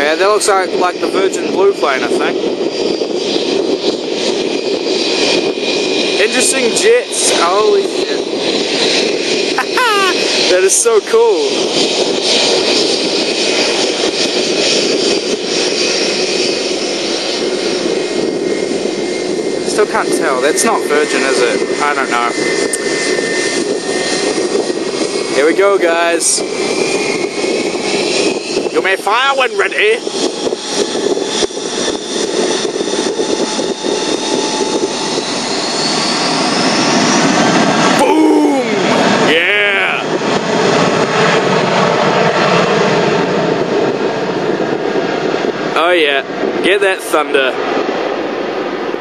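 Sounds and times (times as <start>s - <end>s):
jet engines taxiing: 0.0s - 49.0s.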